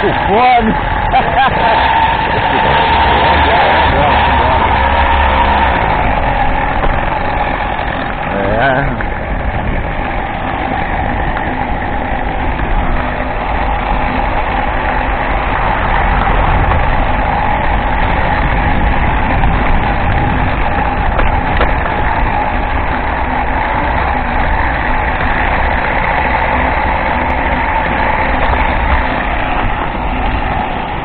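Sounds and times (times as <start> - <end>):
bus engine rumbling: 0.0 - 31.0.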